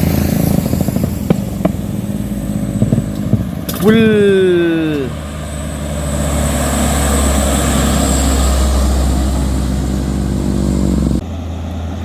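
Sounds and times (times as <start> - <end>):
diesel truck engine labouring: 0.0 - 12.0.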